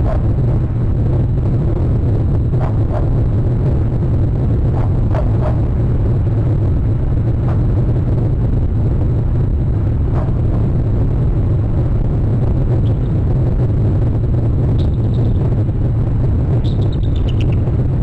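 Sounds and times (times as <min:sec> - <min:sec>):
wind rumble: 0:00.0 - 0:18.0.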